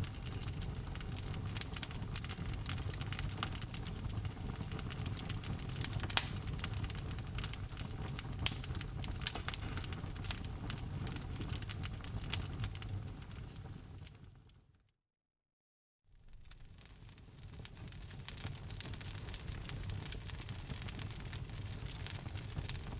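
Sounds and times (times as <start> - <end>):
louder fire snaps: 0.0 - 14.2, 16.3 - 22.9
logs crackling and popping: 0.0 - 14.3, 16.2 - 22.9
low rumble of flames: 0.0 - 14.6, 16.2 - 22.9.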